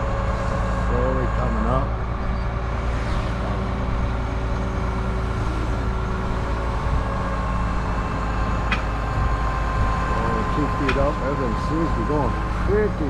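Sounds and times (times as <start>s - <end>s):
crane engine running under load: 0.0s - 13.0s.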